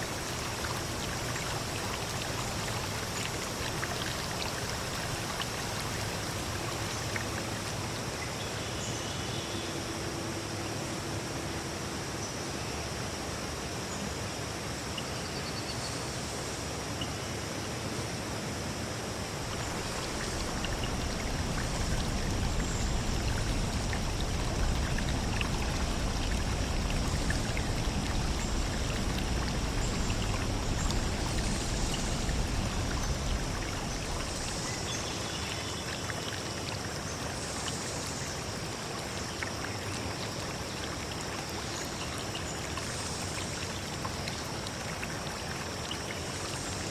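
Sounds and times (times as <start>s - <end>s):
stream water flowing: 0.0s - 15.0s, 15.7s - 46.9s.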